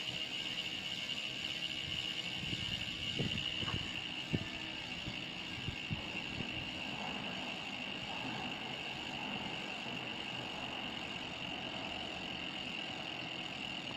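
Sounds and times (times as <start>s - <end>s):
bicycle hub ratcheting buzz: 0.0s - 13.9s.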